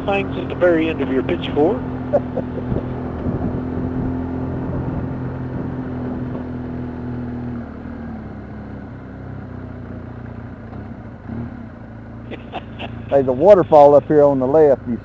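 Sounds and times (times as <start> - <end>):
road noise inside vehicle: 0.0 - 15.0
vehicle engine hum: 0.0 - 15.0.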